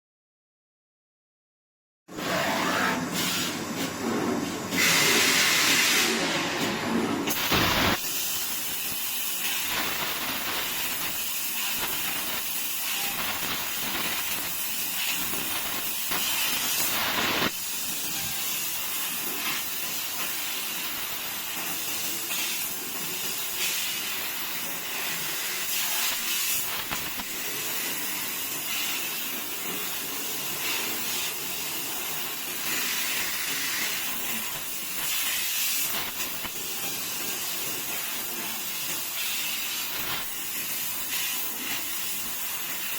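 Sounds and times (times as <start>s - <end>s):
laser cutter hissing: 4.6s - 42.9s.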